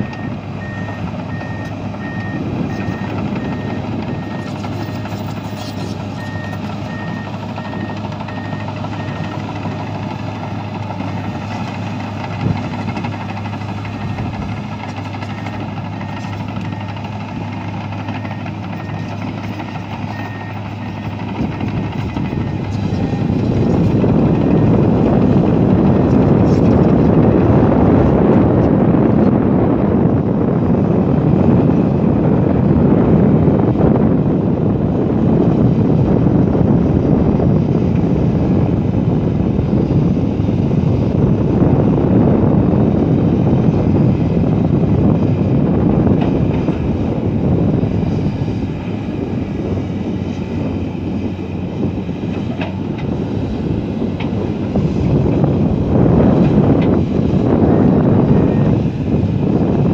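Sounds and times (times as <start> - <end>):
excavator diesel engine rumbling: 0.0 - 59.9.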